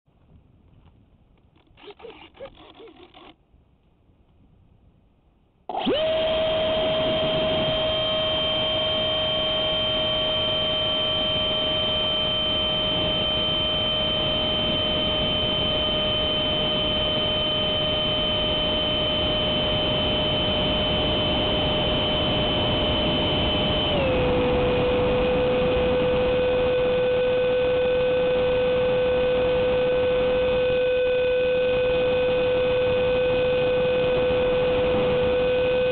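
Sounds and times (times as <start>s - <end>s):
electric jet fan whining: 5.7s - 35.9s.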